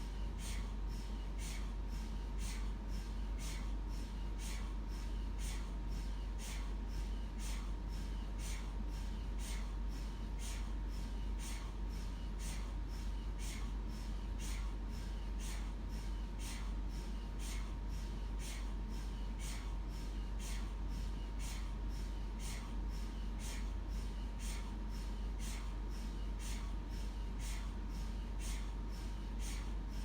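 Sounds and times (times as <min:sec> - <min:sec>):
mri scanner swishing pulses: 0:00.0 - 0:30.0
steady low hum: 0:00.0 - 0:30.0.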